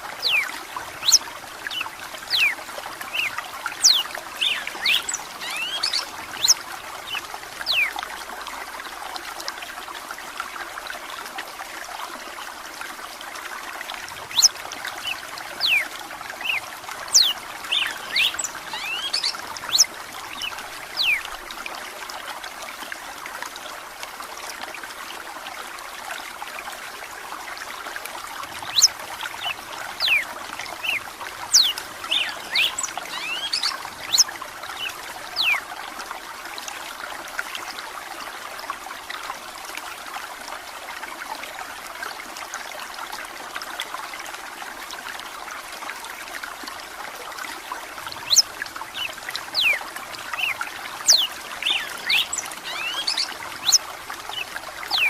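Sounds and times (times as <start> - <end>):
trickle of running water: 0.0 - 55.0.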